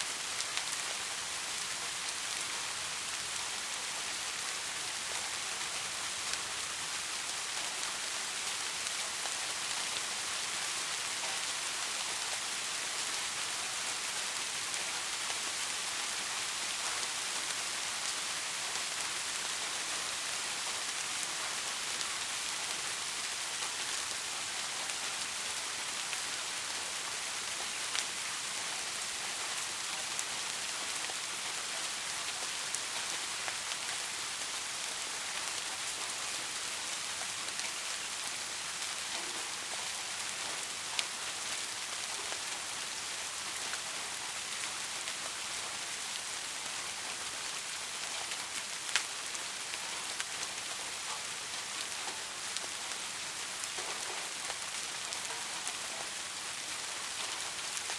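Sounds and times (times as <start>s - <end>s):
rain on hard surfaces: 0.0s - 57.9s.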